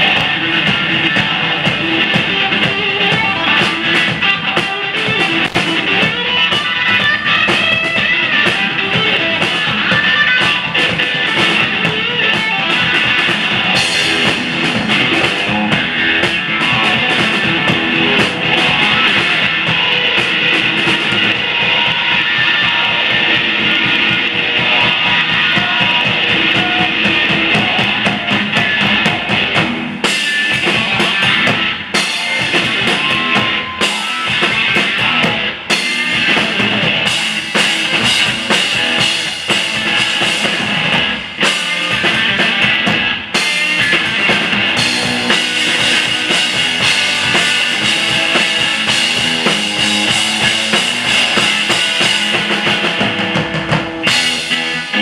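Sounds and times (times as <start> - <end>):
hard-hit drum kit: 0.0 - 55.0
hollow-body electric guitar: 0.0 - 55.0.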